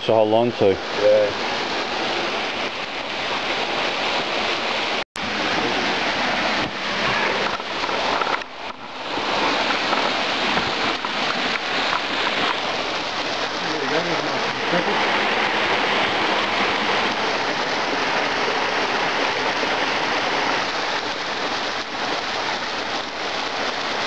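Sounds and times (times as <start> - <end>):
flowing creek water: 0.0 - 24.0.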